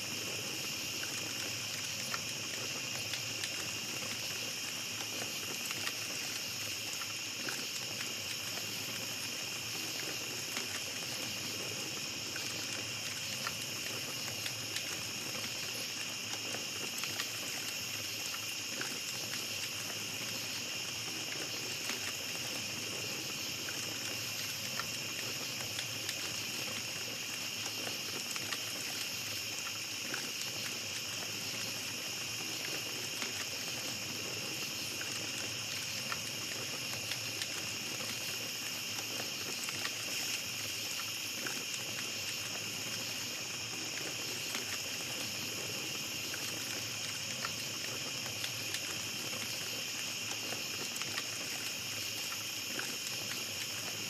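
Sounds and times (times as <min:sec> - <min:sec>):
campfire crackling: 0:00.0 - 0:54.0
night insects chorus: 0:00.0 - 0:54.0.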